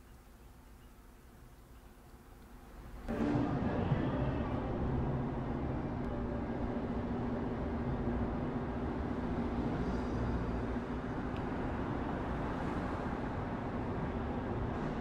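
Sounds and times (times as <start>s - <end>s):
distant traffic rumble: 0.0s - 15.0s
faint hum: 0.0s - 15.0s.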